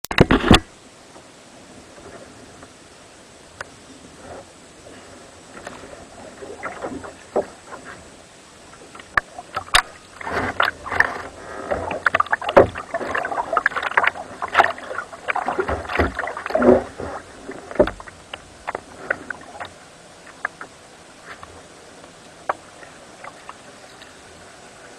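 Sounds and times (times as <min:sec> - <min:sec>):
water splashing around kayak: 0:00.1 - 0:24.9.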